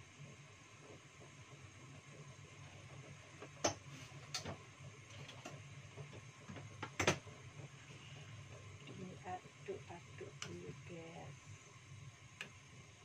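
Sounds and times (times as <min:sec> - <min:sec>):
gas burner humming: 0:00.0 - 0:13.0.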